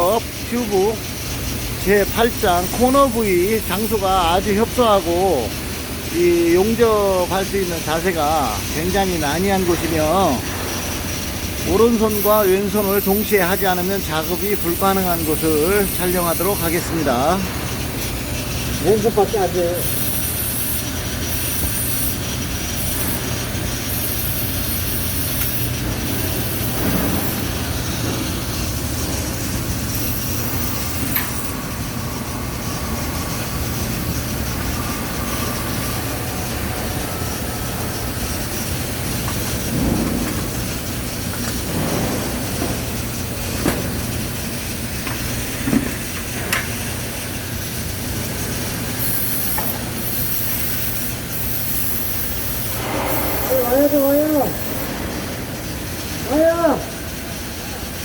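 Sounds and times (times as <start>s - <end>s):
machinery rumble and hiss: 0.0s - 58.0s.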